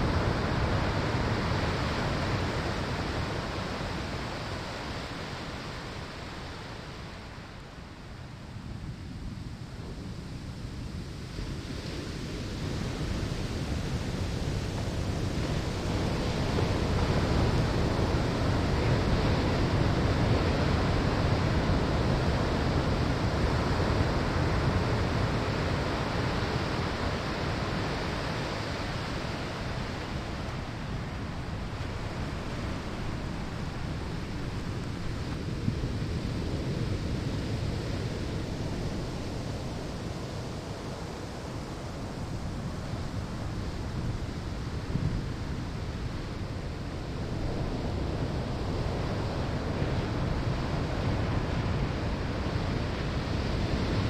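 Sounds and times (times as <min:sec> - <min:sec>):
waves breaking on sandy shore: 0:00.0 - 0:54.0.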